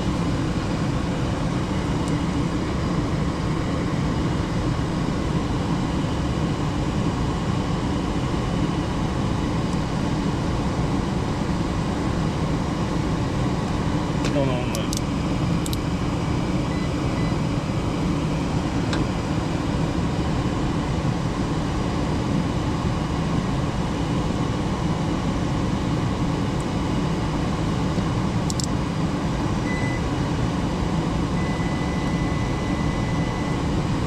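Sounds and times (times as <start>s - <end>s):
furnace blower and burner rumble: 0.0s - 34.0s.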